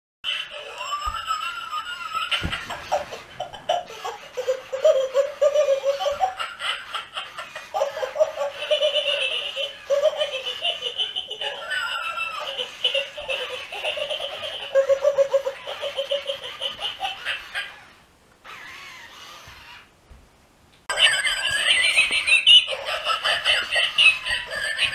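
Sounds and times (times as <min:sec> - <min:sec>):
toy recorded laughing: 0:00.2 - 0:19.9, 0:20.9 - 0:24.9.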